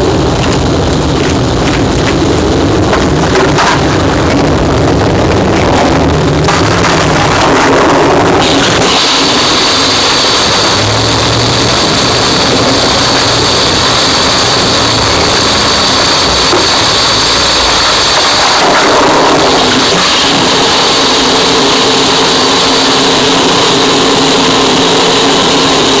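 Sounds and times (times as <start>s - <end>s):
dense distorted noise wall: 0.0s - 26.0s.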